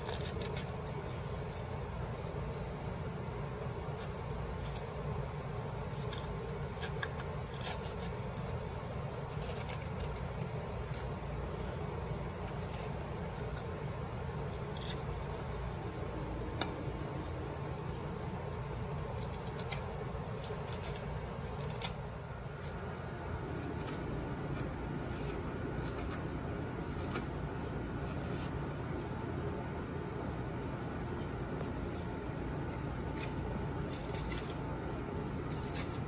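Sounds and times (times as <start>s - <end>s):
knife scraping wood: 0.0s - 2.9s, 5.8s - 29.4s, 30.6s - 36.0s
low background noise: 0.0s - 36.0s.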